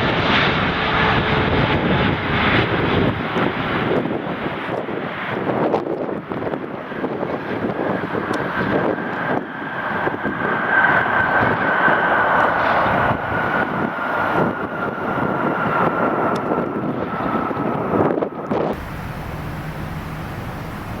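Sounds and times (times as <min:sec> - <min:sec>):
jet airliner engine whine: 0:00.0 - 0:21.0
wind buffeting microphone: 0:00.0 - 0:21.0.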